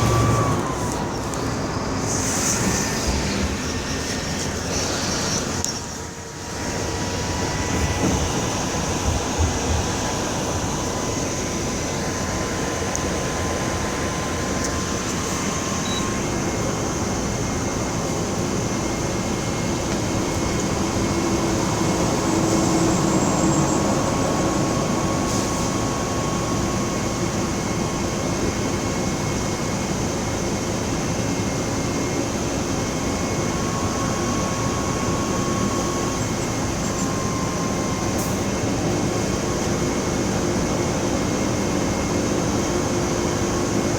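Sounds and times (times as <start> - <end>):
bus diesel engine running: 0.0 - 43.9.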